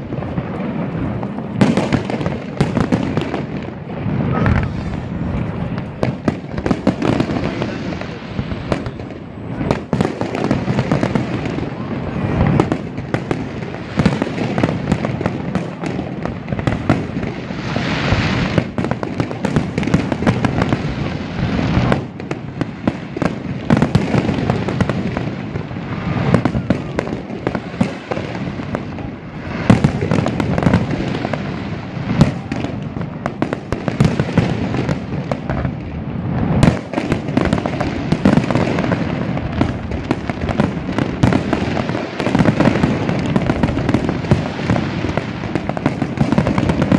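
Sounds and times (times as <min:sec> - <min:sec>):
deep firework booms: 0:00.0 - 0:46.9
fireworks crackling: 0:00.0 - 0:46.9.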